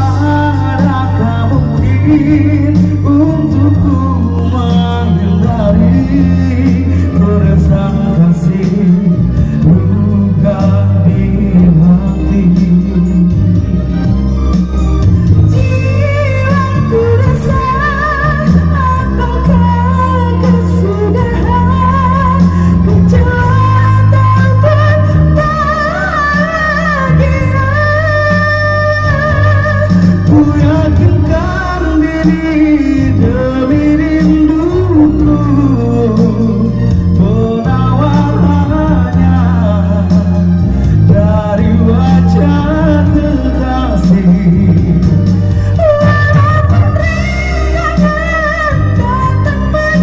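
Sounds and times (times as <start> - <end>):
electronic keyboard backing: 0.0 - 50.0
heavy bass: 0.0 - 50.0
person singing through a microphone: 0.0 - 50.0.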